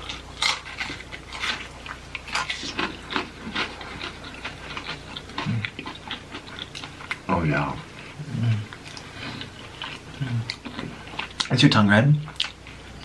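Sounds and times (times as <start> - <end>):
chewing crunchy food: 0.0 - 13.0.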